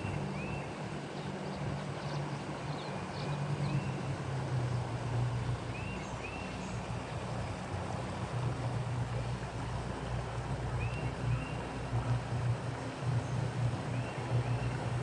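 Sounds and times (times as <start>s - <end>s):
boat motor humming: 0.0s - 15.0s
water wash: 0.0s - 15.0s.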